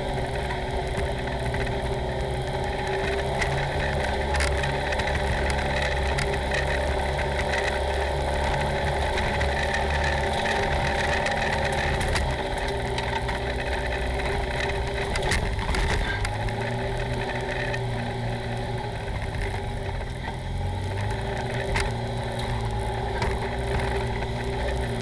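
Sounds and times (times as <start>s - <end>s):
vehicle engine running: 0.0s - 25.0s
vehicle rattling over rough ground: 0.0s - 25.0s.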